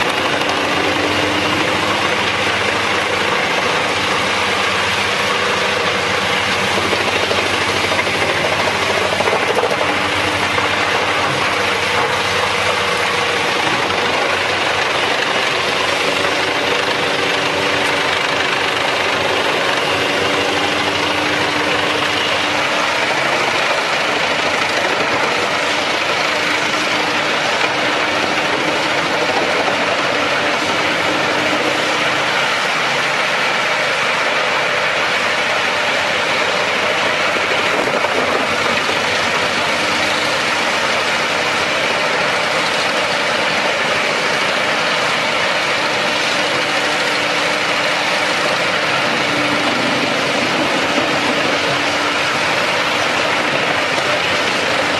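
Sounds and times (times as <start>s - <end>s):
wood chipper running: 0.0s - 54.9s.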